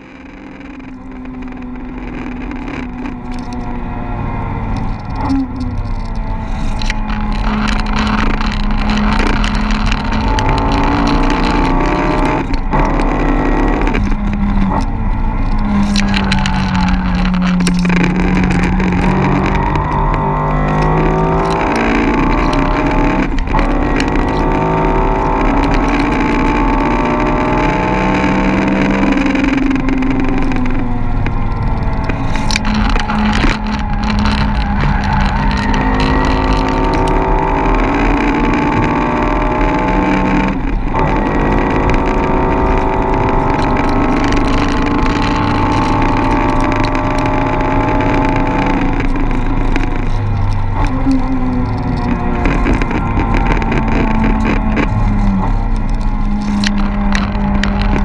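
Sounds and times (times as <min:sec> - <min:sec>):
car engine revving through gears: 0:00.0 - 0:58.0
tyre noise: 0:00.0 - 0:58.0
wind noise: 0:00.0 - 0:58.0.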